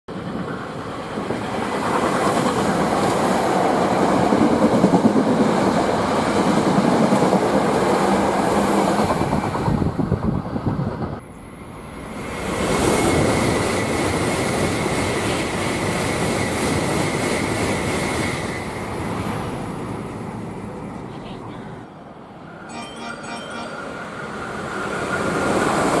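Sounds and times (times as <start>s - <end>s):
electric train on tracks: 0.1s - 26.0s.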